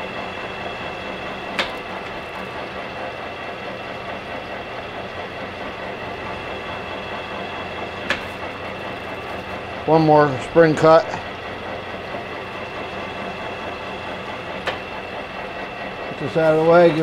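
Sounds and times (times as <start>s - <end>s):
metal lathe running with gear whine: 0.0s - 17.0s.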